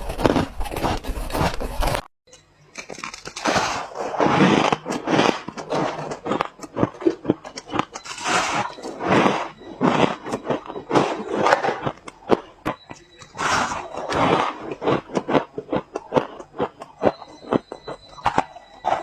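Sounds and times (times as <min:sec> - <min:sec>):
ice crunching between teeth: 0:02.7 - 0:19.0.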